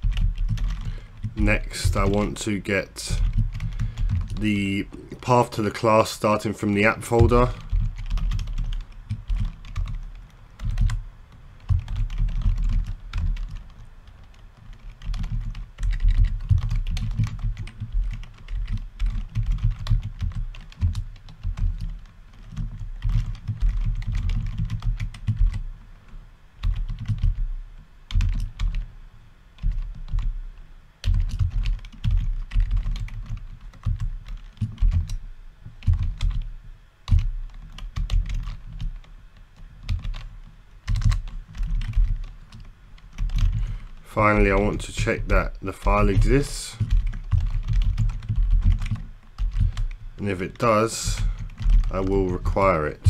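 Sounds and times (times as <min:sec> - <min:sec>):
typing on computer keyboard: 0:00.0 - 0:04.5, 0:06.8 - 0:25.6, 0:26.6 - 0:27.4, 0:28.1 - 0:28.9, 0:29.6 - 0:30.4, 0:31.0 - 0:35.2, 0:35.8 - 0:36.5, 0:37.1 - 0:39.2, 0:39.8 - 0:50.0, 0:50.6 - 0:53.0.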